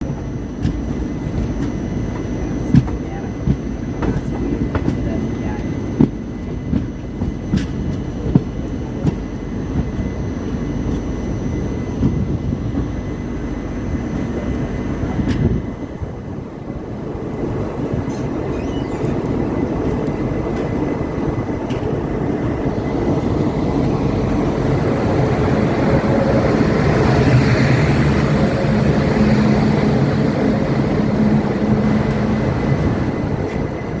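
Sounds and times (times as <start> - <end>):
locomotive electric hum: 0.0 - 34.0
train rumble: 0.0 - 34.0.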